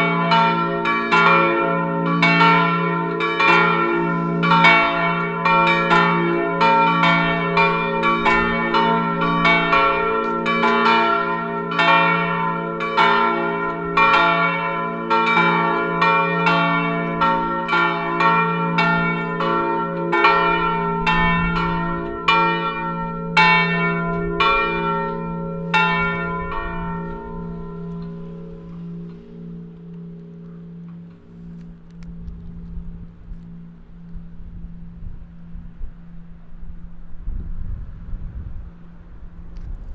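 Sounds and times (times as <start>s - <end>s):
bell hum: 0.0s - 36.6s
church bells ringing: 0.0s - 37.4s.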